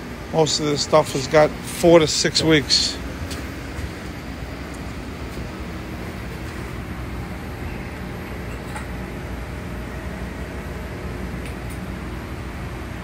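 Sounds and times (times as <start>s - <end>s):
aquarium pump hum: 0.0s - 13.0s.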